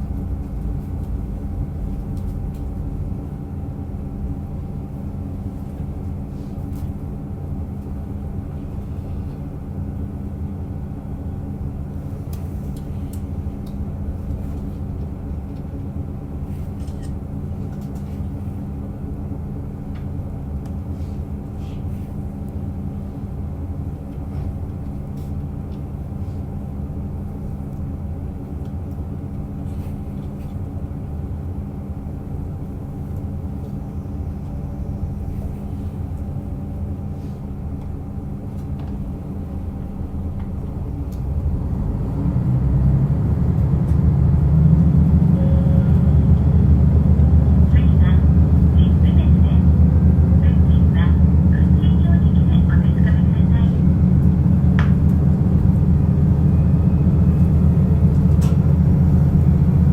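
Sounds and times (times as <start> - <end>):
railcar engine drone: 0.0 - 59.9.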